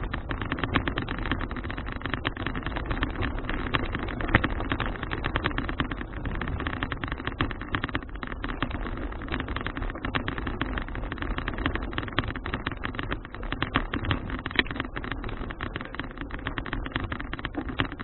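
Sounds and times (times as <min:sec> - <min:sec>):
bicycle clicking and rattling: 0:00.0 - 0:18.0.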